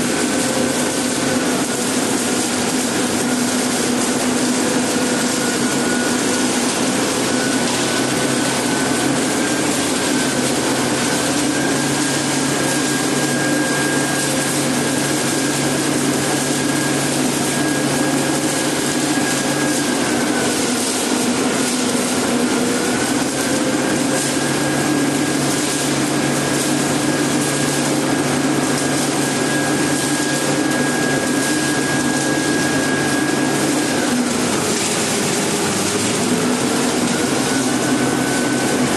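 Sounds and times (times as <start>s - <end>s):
concrete mixer running: 0.0s - 38.9s
high mechanical whine: 0.0s - 38.9s.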